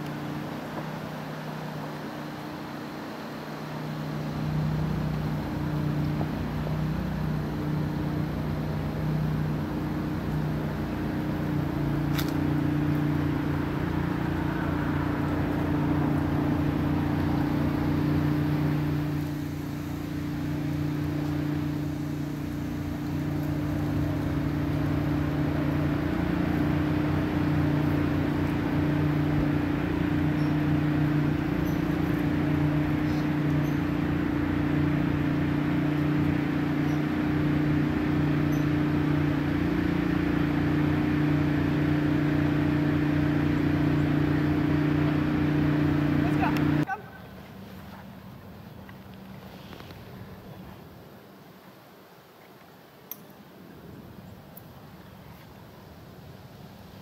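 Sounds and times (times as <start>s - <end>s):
car engine humming: 0.0s - 50.8s
outdoor background noise: 0.0s - 57.0s.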